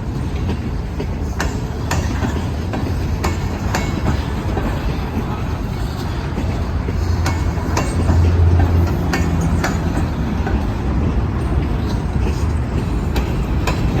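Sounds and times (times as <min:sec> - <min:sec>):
freight train rumbling past: 0:00.0 - 0:14.0
steel wheels clacking over rail joints: 0:00.0 - 0:14.0.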